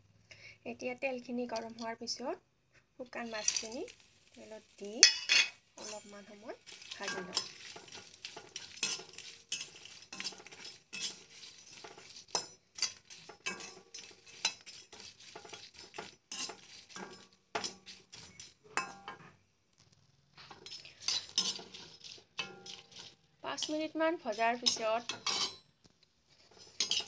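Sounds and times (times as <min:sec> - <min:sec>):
metal spatula scraping a wok: 0:03.0 - 0:19.4, 0:20.4 - 0:25.7, 0:26.3 - 0:27.0.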